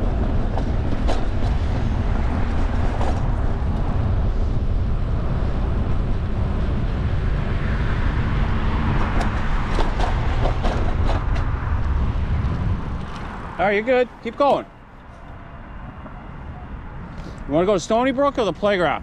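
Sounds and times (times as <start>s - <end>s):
car traffic: 0.0s - 19.0s
wind rushing over microphone: 0.0s - 19.0s.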